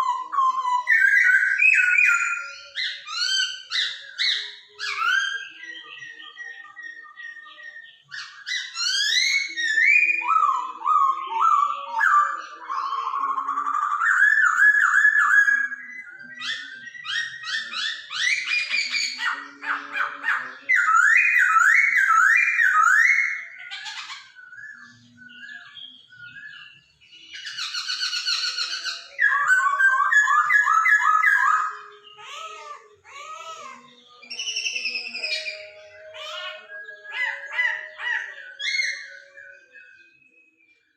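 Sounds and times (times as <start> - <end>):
laughingthrush singing: 0.0 - 40.4.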